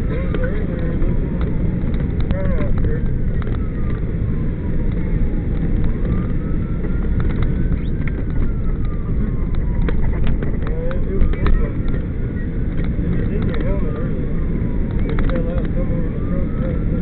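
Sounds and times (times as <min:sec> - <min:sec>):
siren wailing: 0:00.0 - 0:17.0
vehicle engine and road rumble: 0:00.0 - 0:17.0.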